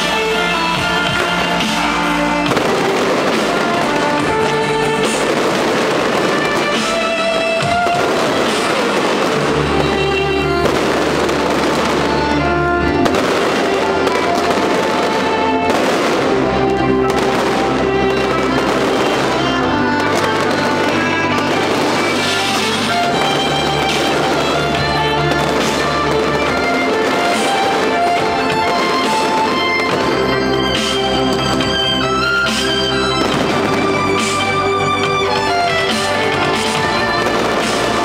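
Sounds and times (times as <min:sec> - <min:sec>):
fireworks going off: 0:00.0 - 0:38.0
loud music with bass line: 0:00.0 - 0:38.0.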